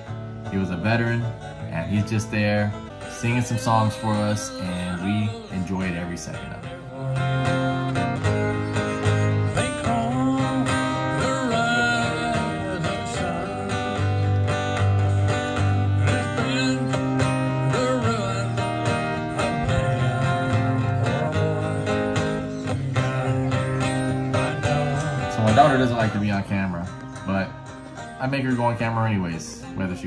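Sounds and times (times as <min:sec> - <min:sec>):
bass line: 0:00.0 - 0:29.9
guitar playing: 0:00.0 - 0:30.0
man singing into a microphone: 0:00.5 - 0:26.5.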